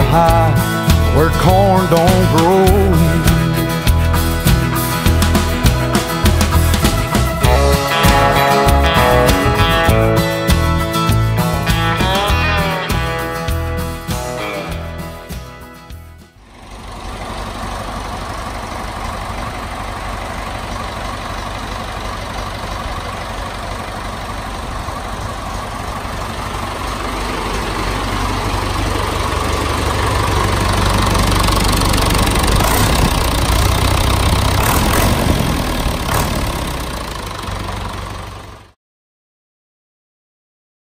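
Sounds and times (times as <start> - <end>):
tractor engine idling: 0.0 - 38.8.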